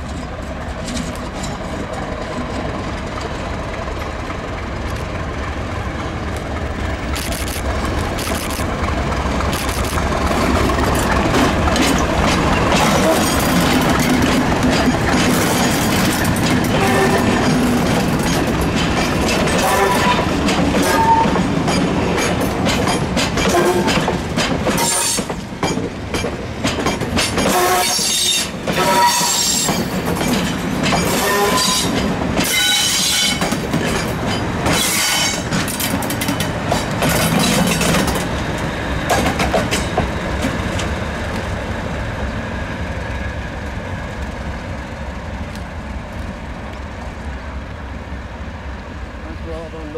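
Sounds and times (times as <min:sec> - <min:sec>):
train wheels clicking on track: 0:00.0 - 0:47.3
diesel locomotive engine: 0:00.0 - 0:49.9.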